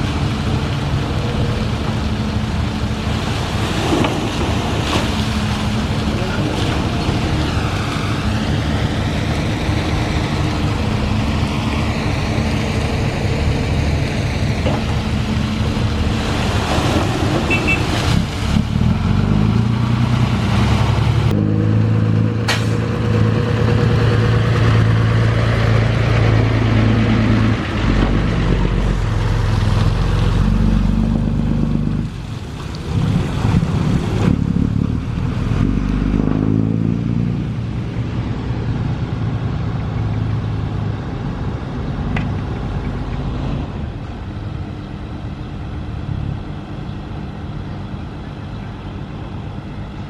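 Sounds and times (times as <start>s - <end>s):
diesel engines running: 0.0s - 50.0s.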